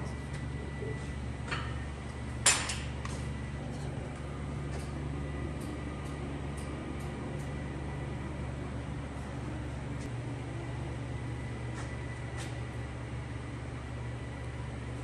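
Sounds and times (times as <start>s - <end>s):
workshop hum: 0.0s - 15.0s.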